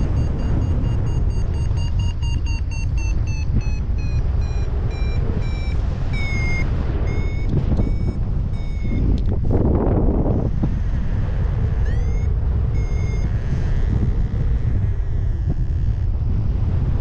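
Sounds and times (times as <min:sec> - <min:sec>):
variometer beeping: 0:00.0 - 0:09.6, 0:10.4 - 0:16.1
wind rushing on microphone: 0:00.0 - 0:17.0.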